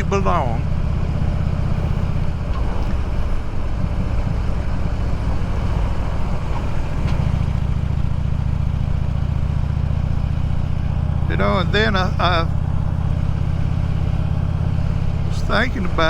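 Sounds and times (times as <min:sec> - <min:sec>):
motorcycle engine rumbling: 0:00.0 - 0:16.0
wind and road noise: 0:00.0 - 0:16.0.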